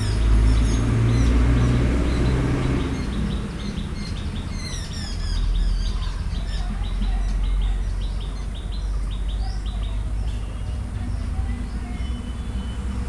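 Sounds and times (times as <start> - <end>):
birds chirping and trilling: 0.0 - 13.0.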